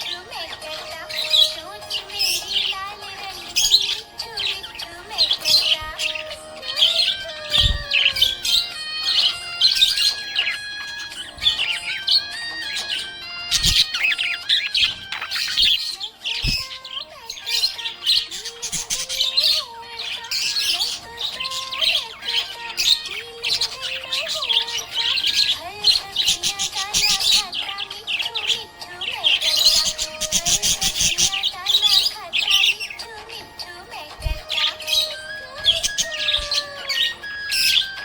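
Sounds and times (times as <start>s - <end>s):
background music: 0.0s - 38.0s
budgie chirping: 0.0s - 38.0s.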